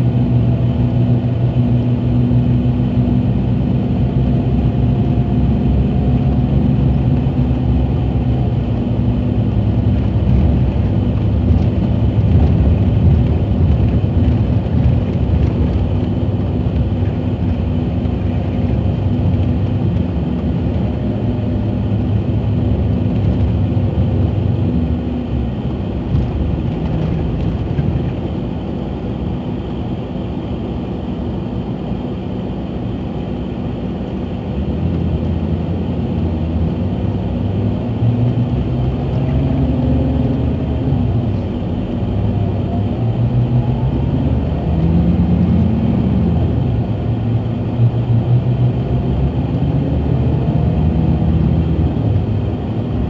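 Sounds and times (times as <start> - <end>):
coach diesel engine rumble: 0.0 - 53.0.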